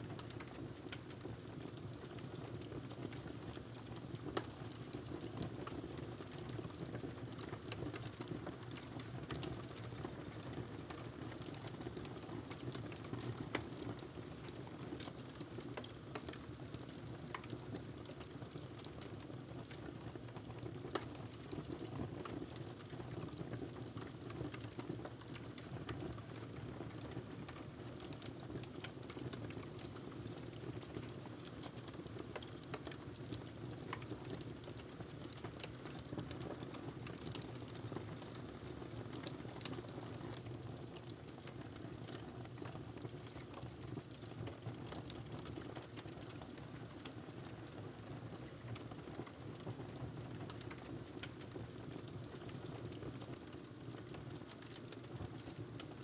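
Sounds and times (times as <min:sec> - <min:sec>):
wood fire crackling: 0:00.1 - 0:47.8, 0:48.4 - 0:56.0.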